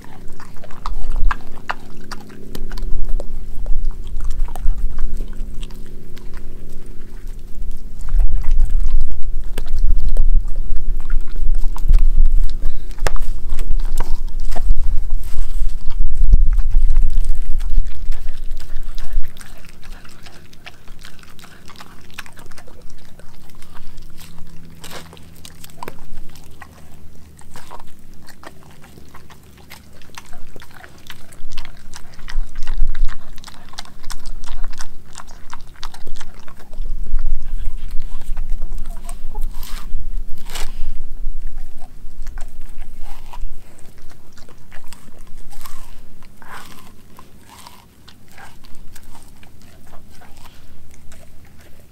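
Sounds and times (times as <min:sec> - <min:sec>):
bone crunching: 0:00.0 - 0:51.9
dog chewing meat on bone: 0:00.0 - 0:51.9.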